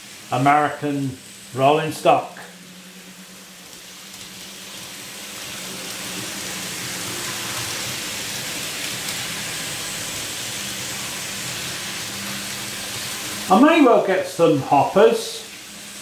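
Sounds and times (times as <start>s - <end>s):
model train wheels on rails: 0.0s - 16.0s.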